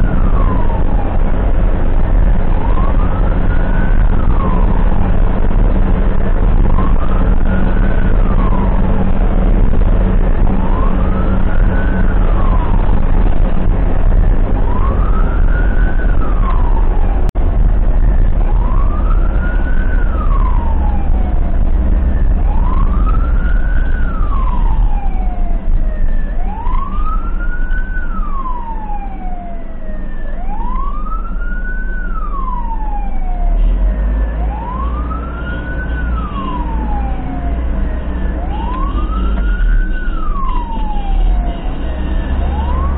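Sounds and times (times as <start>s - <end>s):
ambulance siren wailing: 0.0s - 42.9s
engine and tyres rumbling: 0.0s - 42.9s.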